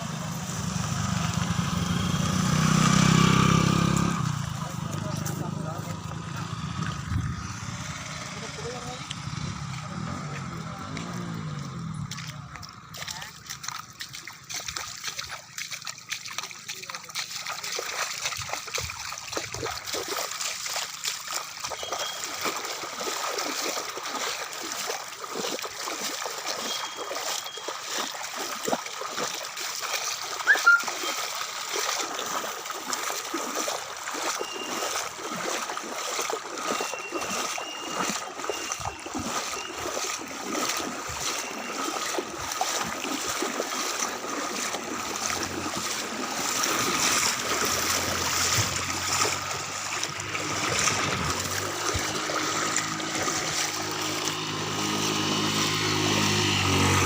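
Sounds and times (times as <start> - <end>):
floodwater flowing and splashing: 0.0 - 57.0.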